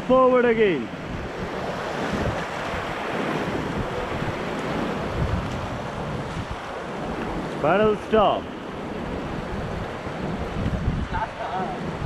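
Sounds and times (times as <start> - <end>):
rapids roaring: 0.0 - 12.0
wind buffeting microphone: 0.0 - 12.0.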